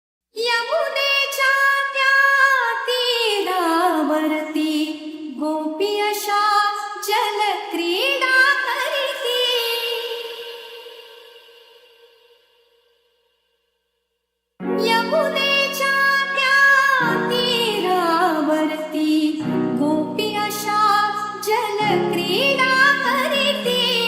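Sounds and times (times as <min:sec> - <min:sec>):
woman singing: 0:00.4 - 0:12.4, 0:14.6 - 0:24.0.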